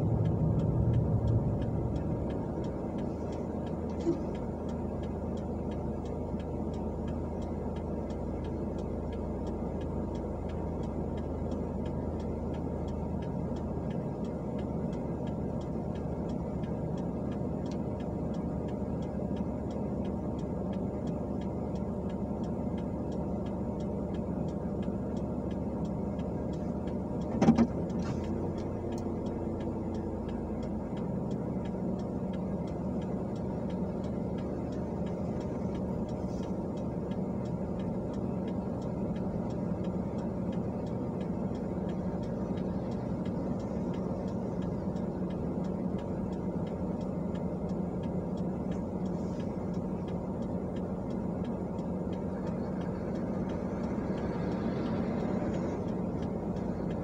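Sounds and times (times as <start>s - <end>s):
car engine idling: 0.0s - 57.0s
turn signal ticking: 0.0s - 57.0s.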